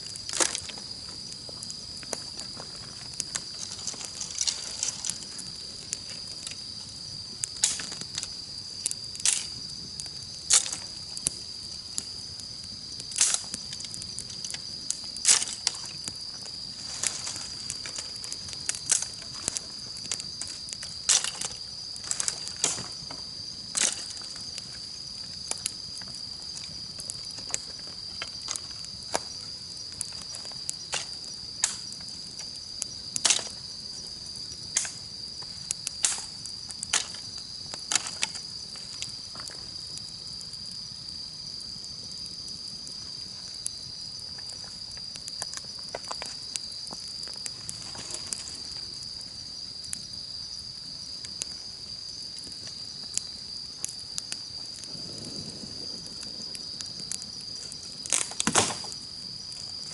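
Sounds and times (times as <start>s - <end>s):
campfire crackling: 0.0s - 59.9s
insects trilling: 0.0s - 59.9s.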